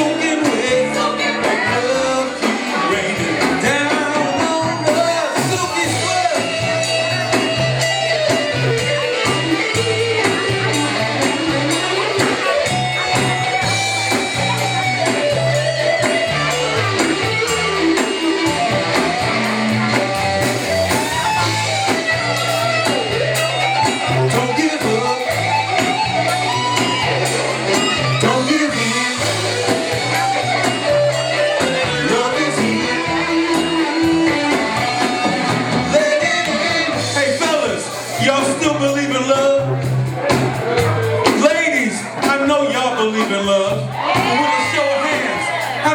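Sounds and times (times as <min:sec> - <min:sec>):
drums: 0:00.0 - 0:45.9
guitar lead melody: 0:00.0 - 0:45.9
repeating bass line: 0:00.0 - 0:45.9.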